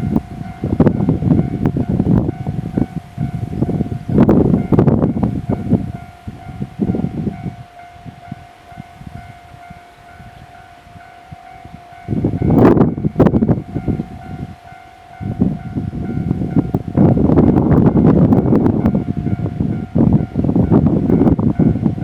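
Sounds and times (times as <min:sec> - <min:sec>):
level-crossing warning bell: 0:00.0 - 0:22.0
wind rumble on microphone: 0:00.0 - 0:22.0.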